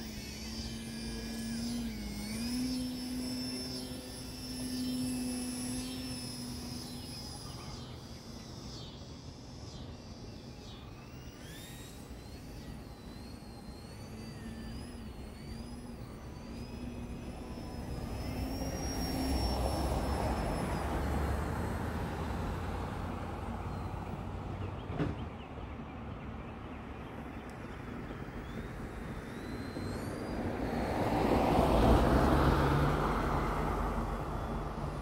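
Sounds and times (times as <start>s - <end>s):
model plane motor whining: 0.0s - 35.0s.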